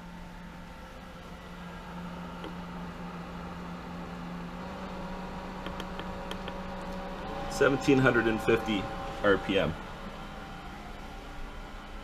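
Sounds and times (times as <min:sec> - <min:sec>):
pool pump humming: 0:00.0 - 0:12.0.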